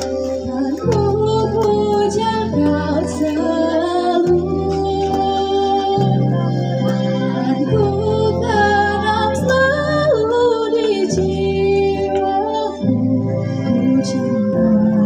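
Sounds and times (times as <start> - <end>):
girl singing into microphone: 0.0 - 15.0
instrumental accompaniment: 0.0 - 15.0.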